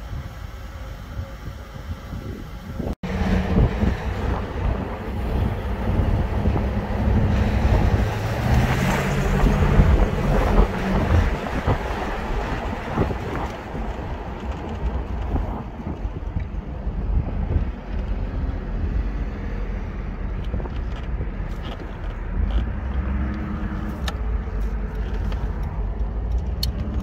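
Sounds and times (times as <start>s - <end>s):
car engine running: 0.0s - 27.0s
tyre road noise: 0.0s - 27.0s
wind noise: 0.0s - 27.0s.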